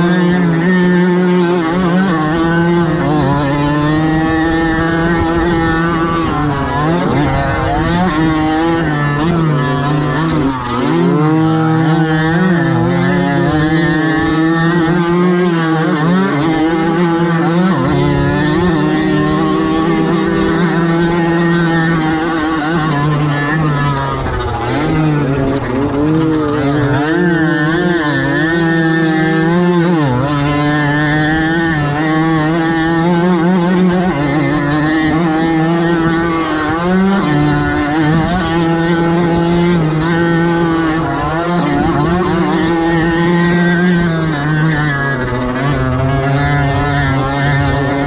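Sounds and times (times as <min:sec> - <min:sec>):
two-stroke moped engine revving: 0:00.0 - 0:48.0.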